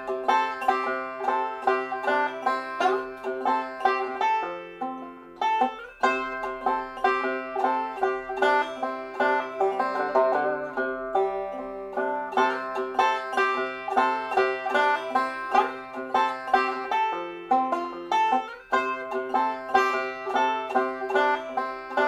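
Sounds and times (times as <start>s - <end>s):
bluegrass music with banjo: 0.0s - 22.0s.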